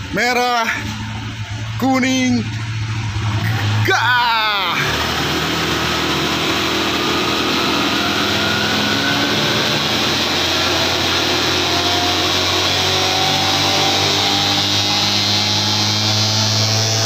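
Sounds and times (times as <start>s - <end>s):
whine rising in pitch: 0.0s - 17.0s
scooter engine at full throttle: 2.7s - 17.0s.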